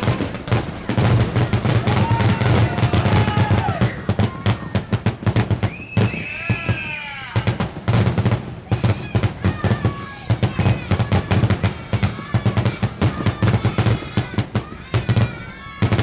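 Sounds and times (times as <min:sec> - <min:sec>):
fireworks crackling bursts: 0:00.0 - 0:16.0
whistling firework shells: 0:00.0 - 0:16.0.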